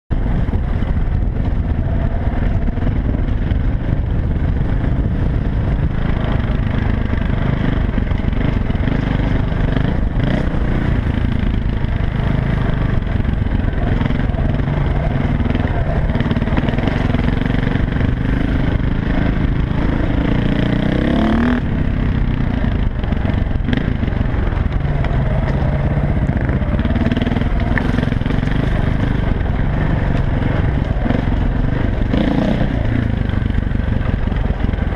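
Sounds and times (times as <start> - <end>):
dirt bike engine revving: 0.4 - 34.9.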